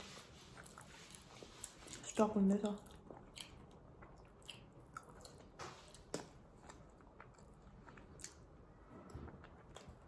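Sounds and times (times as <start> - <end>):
person chewing sticky food: 0.0 - 10.0.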